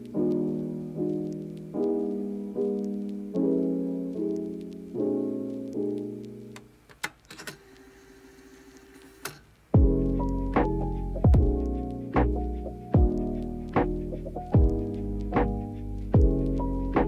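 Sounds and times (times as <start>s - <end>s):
soft piano chords: 0.0s - 6.6s, 9.8s - 17.0s.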